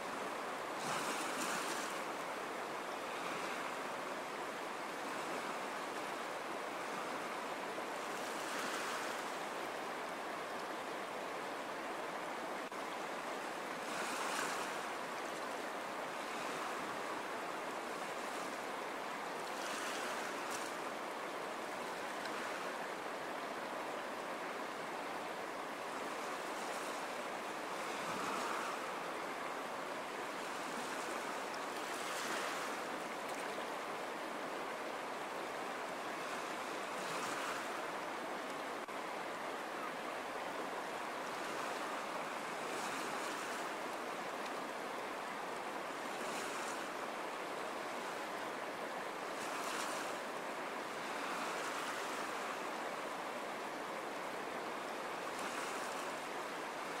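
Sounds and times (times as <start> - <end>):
ocean surf waves: 0.0 - 57.0.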